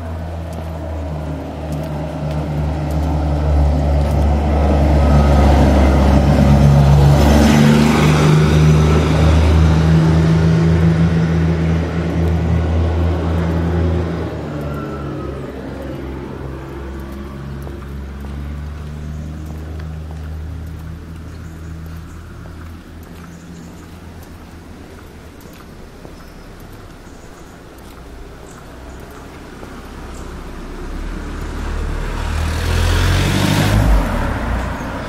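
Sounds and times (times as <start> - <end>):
low-revving engine: 0.0 - 23.6, 28.9 - 35.0.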